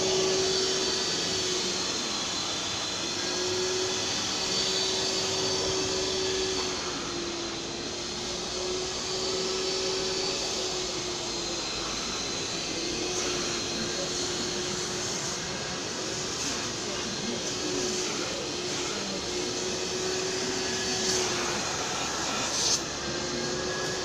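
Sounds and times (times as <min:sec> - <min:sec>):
cleaner suction turbine running: 0:00.0 - 0:24.0.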